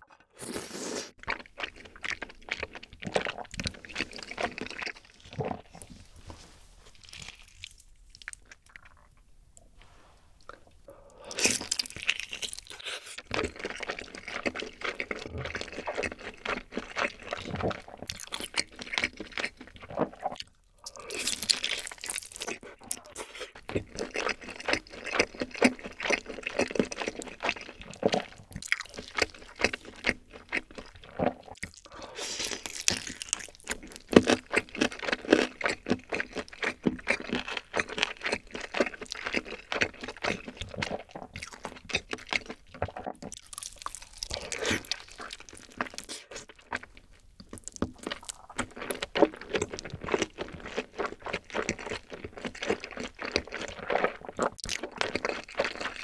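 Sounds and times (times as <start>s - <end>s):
chewing and crunching chicken: 0.0s - 9.4s, 10.4s - 56.0s.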